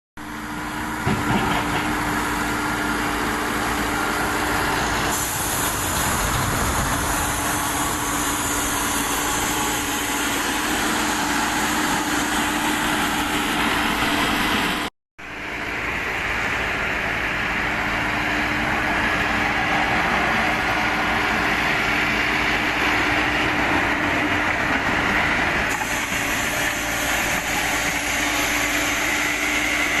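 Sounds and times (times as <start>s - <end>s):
excavator diesel engine running: 0.2s - 30.0s.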